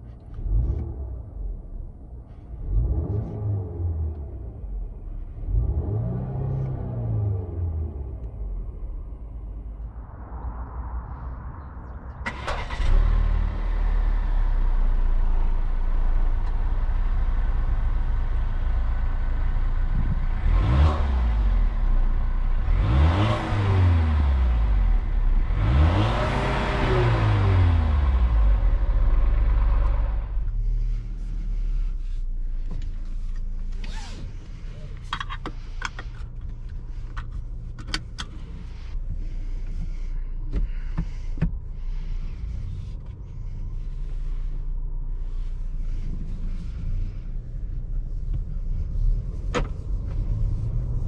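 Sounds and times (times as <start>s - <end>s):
car engine revving and idling: 0.0s - 51.0s.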